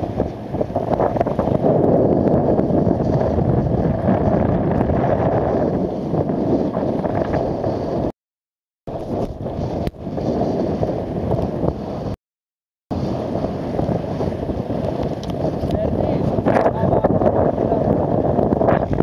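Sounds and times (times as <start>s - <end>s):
water rushing along hull: 0.0s - 8.1s, 8.9s - 12.2s, 12.9s - 19.0s
gale wind buffeting microphone: 0.0s - 8.2s, 8.9s - 12.2s, 12.9s - 19.0s.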